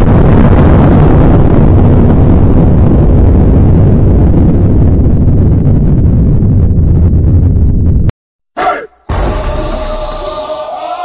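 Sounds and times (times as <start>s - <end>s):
explosion low rumble: 0.0s - 8.1s, 9.1s - 10.4s.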